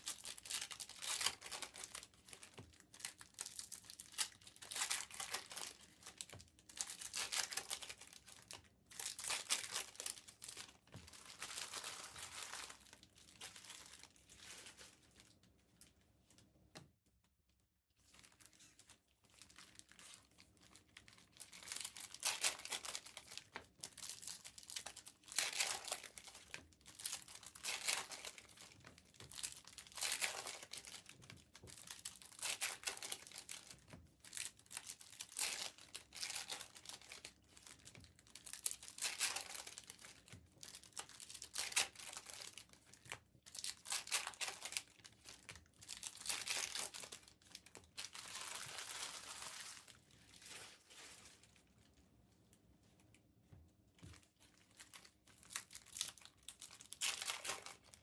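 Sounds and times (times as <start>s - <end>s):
foil wrappers tearing and crinkling: 0.0s - 15.4s, 18.1s - 51.6s, 54.7s - 58.0s.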